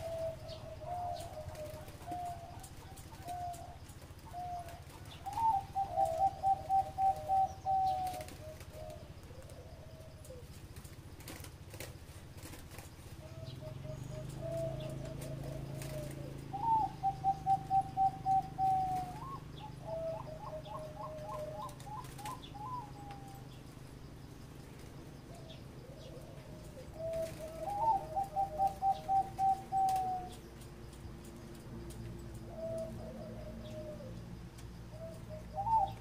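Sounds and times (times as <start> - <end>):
dove cooing: 0.0 - 30.7, 31.8 - 36.0.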